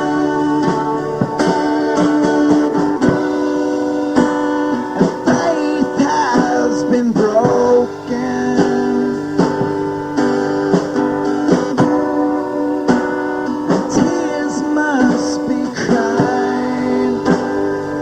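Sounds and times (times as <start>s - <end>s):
guitar playing chords: 0.0s - 18.0s.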